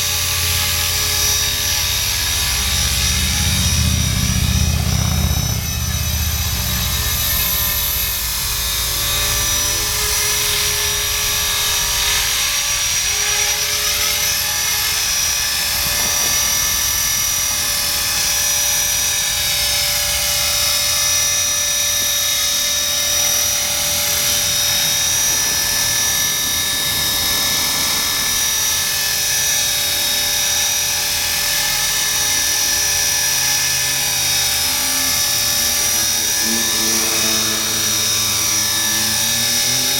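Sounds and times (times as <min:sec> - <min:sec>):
high-pitched whine: 0:00.0 - 0:39.9
rc helicopter motor and rotor: 0:00.0 - 0:39.9.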